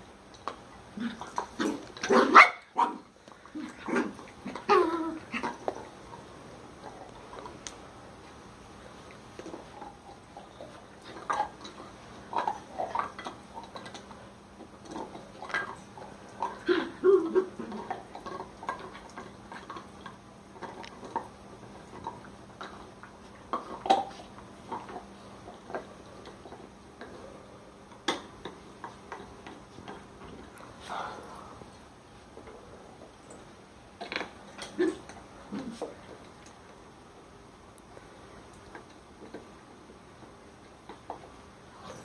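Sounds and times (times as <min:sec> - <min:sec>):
dogs gnawing antler: 0:03.0 - 0:42.0.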